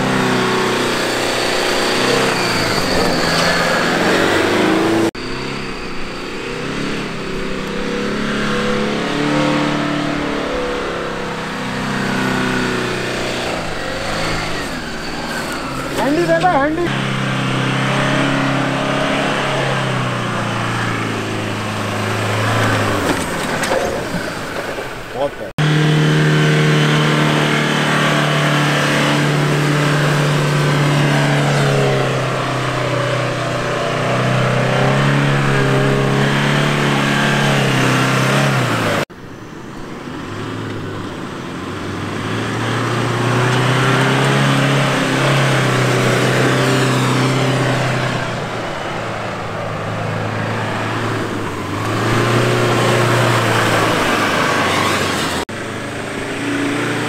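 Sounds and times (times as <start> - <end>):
suv engine revving: 0.0 - 57.0.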